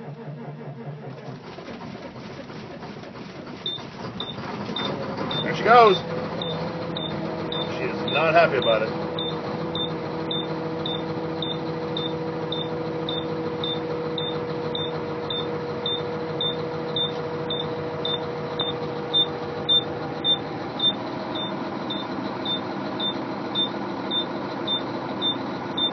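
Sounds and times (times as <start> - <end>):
diesel engine running: 0.0 - 25.9
short high beeps: 3.7 - 5.5, 6.4 - 25.9.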